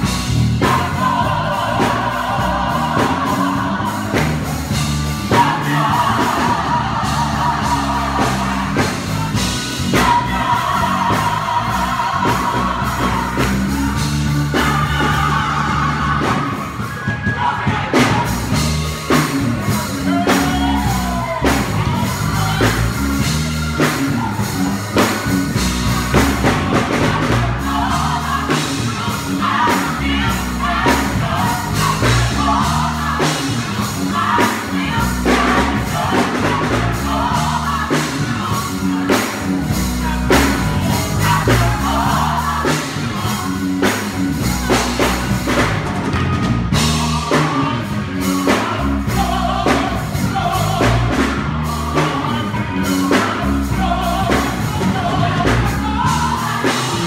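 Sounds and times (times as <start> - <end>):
gospel choir singing: 0.0 - 57.0
instrumental backing with beat: 0.0 - 57.0.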